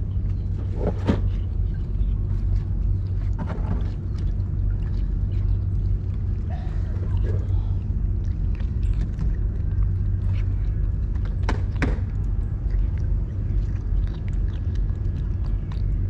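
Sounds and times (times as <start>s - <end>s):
cat chewing wet food: 0.0s - 16.0s
steady low rumble: 0.0s - 16.0s.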